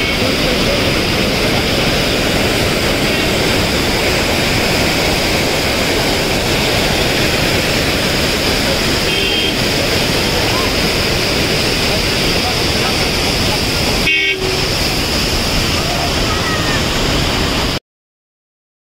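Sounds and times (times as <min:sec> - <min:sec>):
water cascading over weir: 0:00.0 - 0:17.8.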